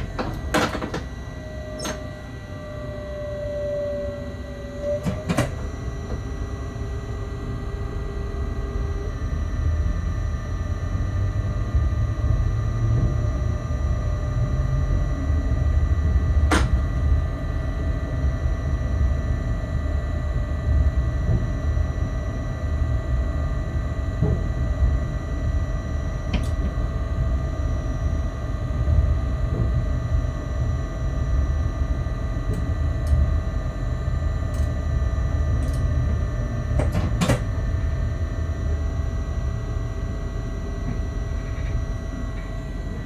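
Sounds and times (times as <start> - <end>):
locomotive equipment hum: 0.0 - 43.0.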